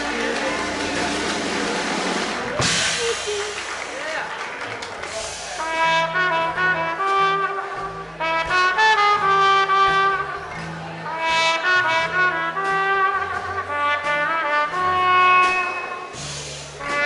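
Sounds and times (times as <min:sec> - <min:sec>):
bass line: 0:00.0 - 0:04.0, 0:05.1 - 0:17.0
brass band music: 0:00.0 - 0:04.0, 0:04.6 - 0:17.0.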